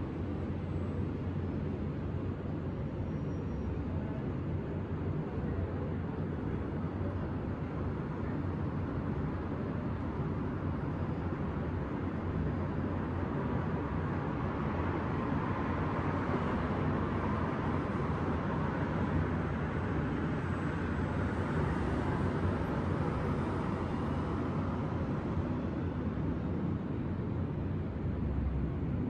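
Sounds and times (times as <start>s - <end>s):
distant city traffic hum: 0.0s - 29.0s.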